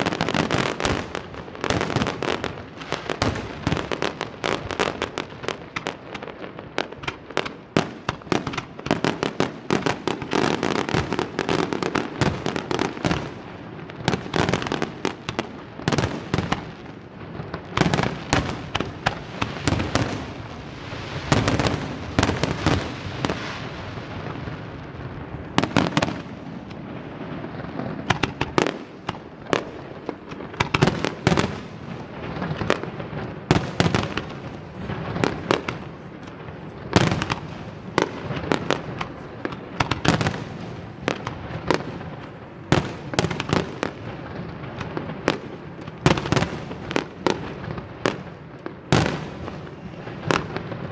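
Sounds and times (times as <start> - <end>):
fireworks bursting: 0.0 - 50.9
fireworks crackling: 0.0 - 50.9.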